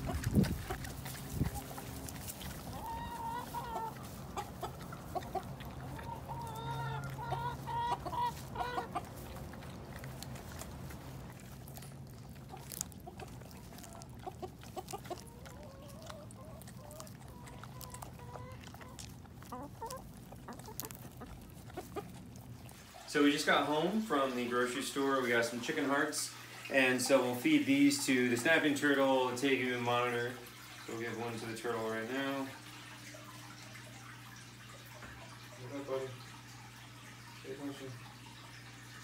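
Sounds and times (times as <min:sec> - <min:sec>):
hens clucking: 0:00.0 - 0:39.0.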